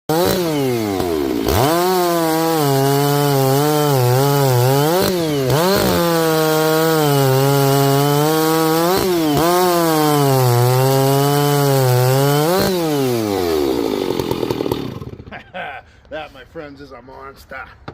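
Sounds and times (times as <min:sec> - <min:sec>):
chainsaw cutting through wood: 0:00.1 - 0:15.4.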